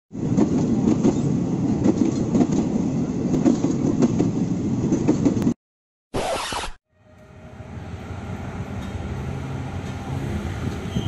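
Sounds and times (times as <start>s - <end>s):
train rumbling on track: 0.1s - 5.6s, 7.0s - 11.0s.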